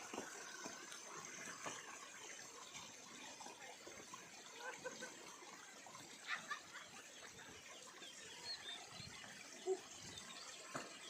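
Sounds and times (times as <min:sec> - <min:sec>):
faint rushing water: 0:00.0 - 0:11.0.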